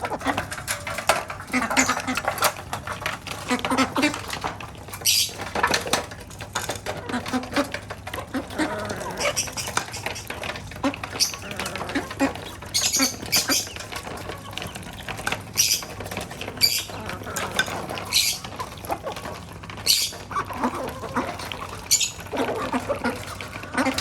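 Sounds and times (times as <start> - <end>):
birds squeaking and clicking: 0.0 - 24.0
low clucking calls: 0.0 - 24.0.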